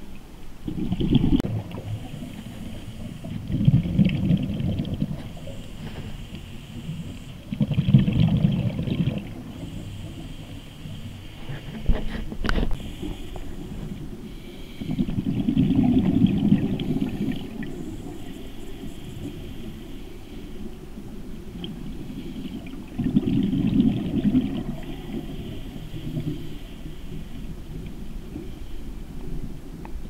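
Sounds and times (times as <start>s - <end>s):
regulator bubbling exhale: 0.6s - 20.7s, 21.6s - 28.9s.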